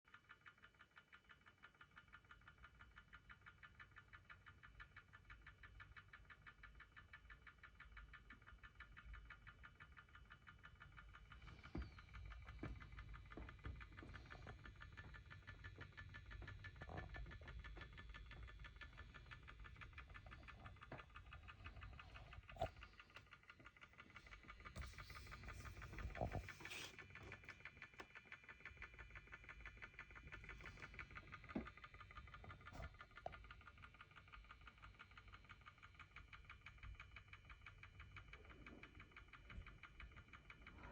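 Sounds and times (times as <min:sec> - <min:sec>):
rapid even clicking: 0:00.6 - 0:40.9.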